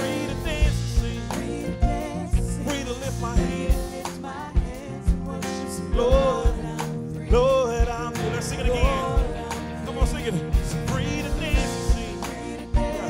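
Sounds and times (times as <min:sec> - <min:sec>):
gospel band playing: 0:00.0 - 0:13.0
people singing: 0:00.0 - 0:13.0.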